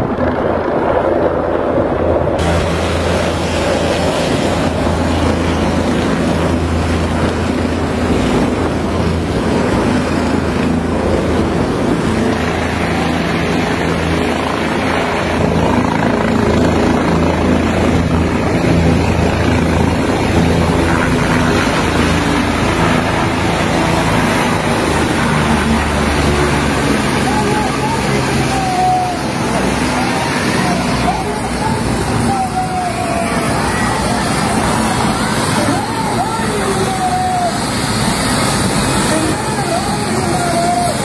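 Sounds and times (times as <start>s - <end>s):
helicopter rotor drone: 0.0s - 41.0s.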